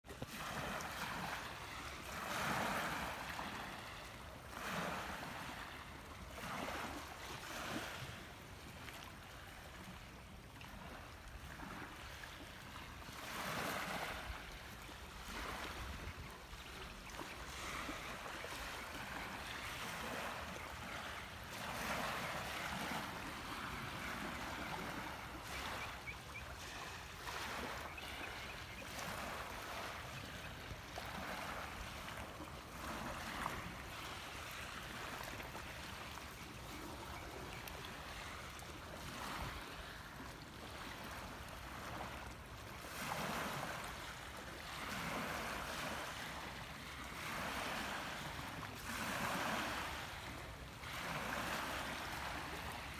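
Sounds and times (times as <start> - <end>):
small waves lapping shore: 0.0 - 52.9
wind: 0.0 - 52.9.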